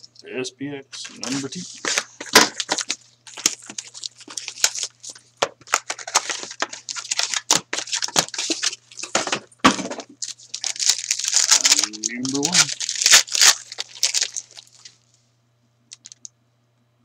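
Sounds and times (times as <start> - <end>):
wrapper crinkling and crackling: 1.0 - 15.2, 15.9 - 16.3.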